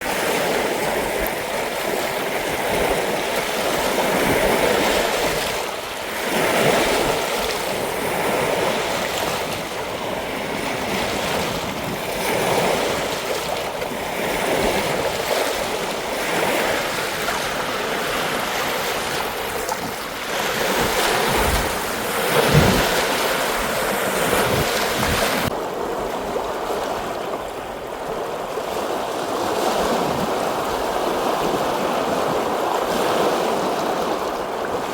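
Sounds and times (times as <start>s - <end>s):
lake waves washing: 0.0s - 34.9s
wind rumbling on microphone: 0.0s - 34.9s.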